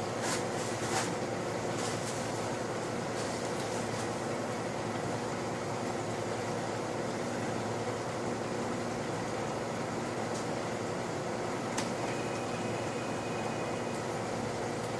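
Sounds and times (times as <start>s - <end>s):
mechanical hum with hiss: 0.0s - 14.9s.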